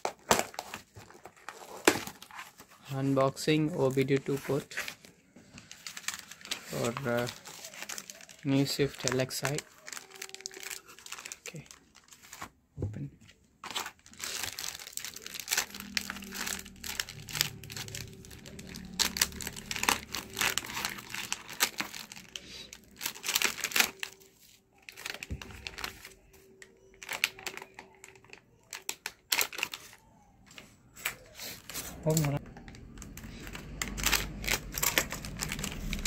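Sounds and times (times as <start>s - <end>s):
plastic bags crinkling: 0.0s - 12.6s, 13.6s - 30.0s, 31.6s - 36.0s.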